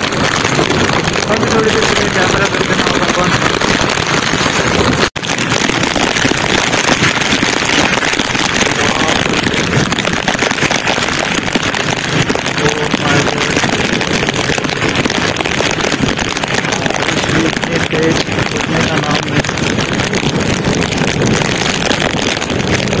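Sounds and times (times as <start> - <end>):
road noise on wet road: 0.0 - 23.0
wind rush: 0.0 - 23.0.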